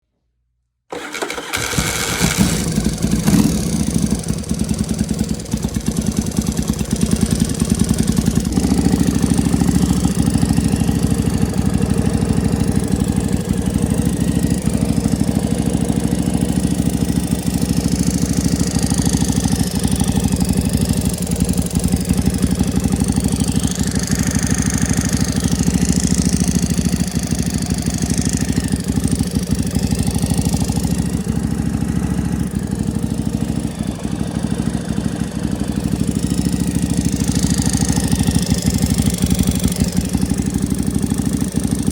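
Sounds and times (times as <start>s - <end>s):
motorcycle engine idling: 0.9s - 41.9s.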